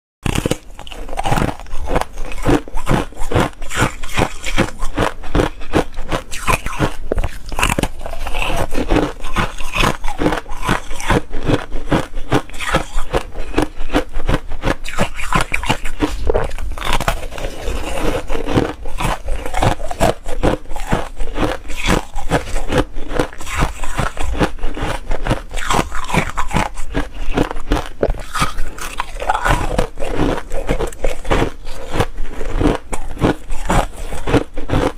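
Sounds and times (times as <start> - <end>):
ice being crunched and chewed: 0.2 - 34.9.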